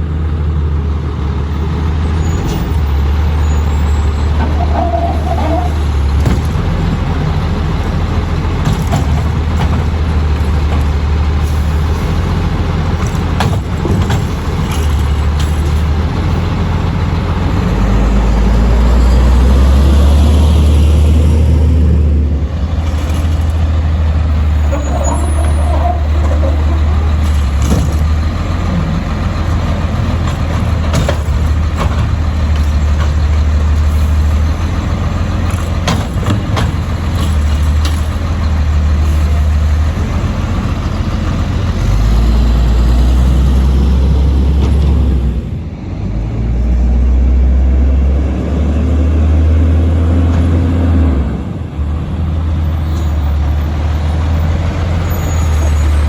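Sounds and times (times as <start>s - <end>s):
garbage truck diesel engine: 0.0s - 56.0s.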